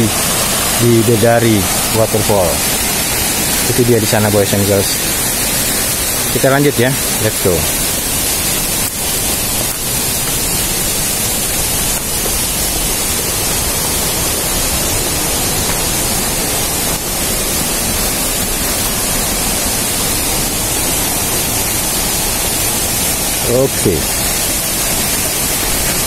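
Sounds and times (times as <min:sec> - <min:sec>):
waterfall and river rushing: 0:00.0 - 0:26.0.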